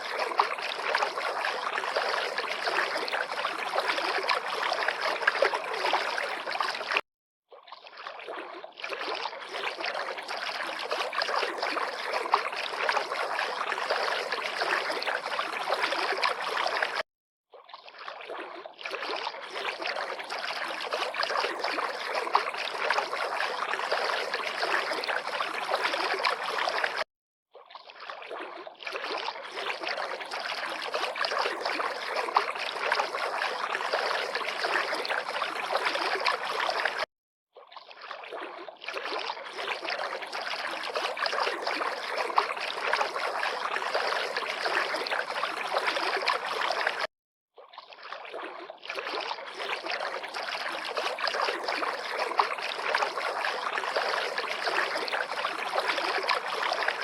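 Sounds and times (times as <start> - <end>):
river water lapping and splashing: 0.0 - 57.0.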